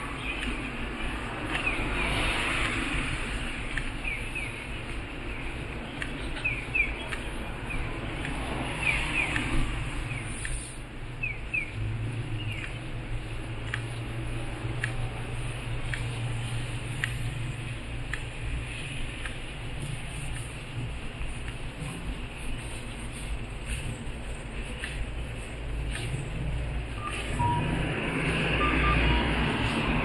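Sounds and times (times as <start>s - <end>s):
small birds chirping: 0.0s - 27.6s
distant traffic rumble: 0.0s - 30.0s.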